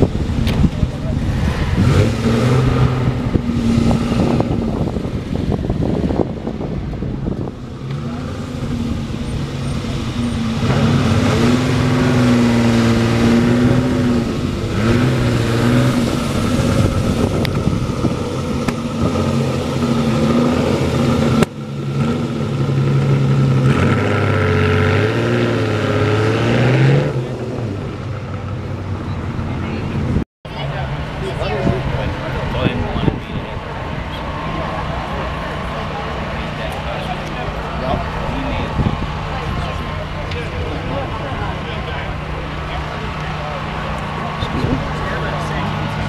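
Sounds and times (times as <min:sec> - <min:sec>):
car engine running: 0:00.0 - 0:24.4, 0:27.3 - 0:46.0.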